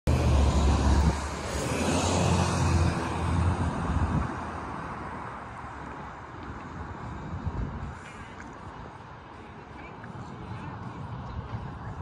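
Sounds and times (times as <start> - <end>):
passing car engine and tyres: 0.1 - 12.0.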